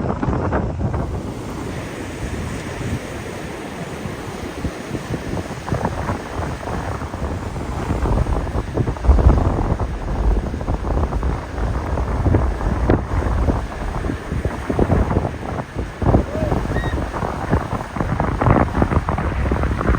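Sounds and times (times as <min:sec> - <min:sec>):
wind buffeting microphone: 0:00.0 - 0:19.9
storm surf breaking: 0:00.9 - 0:19.9.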